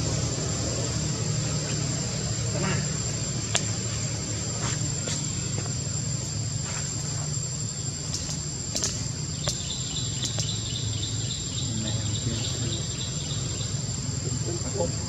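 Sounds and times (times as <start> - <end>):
high-pitched insect whine: 0.0 - 15.0
low steady hum: 0.0 - 15.0
rapid insect chirps: 0.0 - 15.0.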